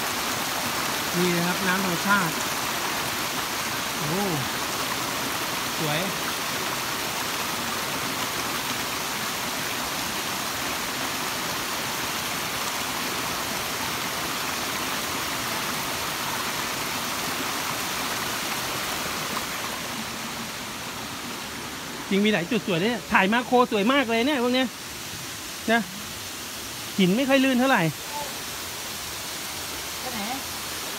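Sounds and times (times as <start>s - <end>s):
waterfall and stream rushing: 0.0s - 30.9s.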